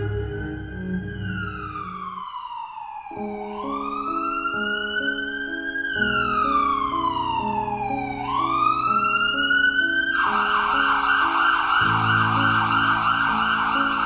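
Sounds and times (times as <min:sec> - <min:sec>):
background music with low notes: 0:00.0 - 0:02.4, 0:03.0 - 0:14.0
siren wailing and warbling: 0:00.0 - 0:14.0.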